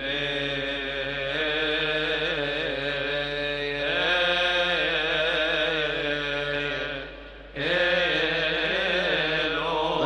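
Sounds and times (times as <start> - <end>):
men's choir chanting a hymn: 0.0 - 10.0.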